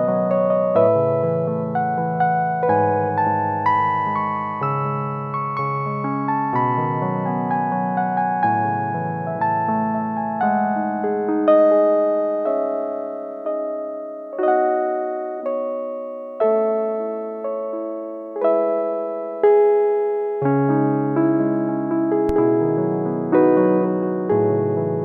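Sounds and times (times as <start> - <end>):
gentle piano chords: 0.0 - 25.0.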